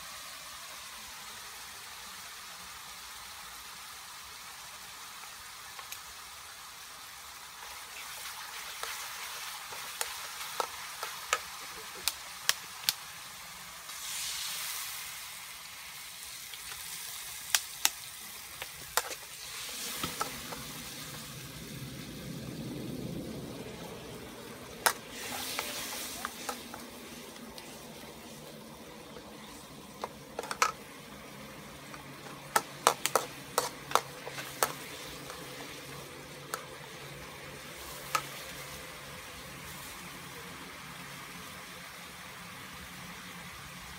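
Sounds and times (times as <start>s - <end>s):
food sizzling: 0.0s - 43.9s.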